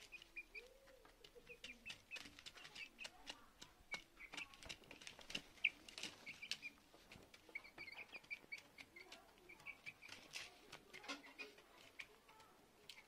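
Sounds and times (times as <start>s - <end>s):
beaks tapping on grain and plastic: 0.0s - 13.0s
chicks peeping: 0.0s - 13.0s.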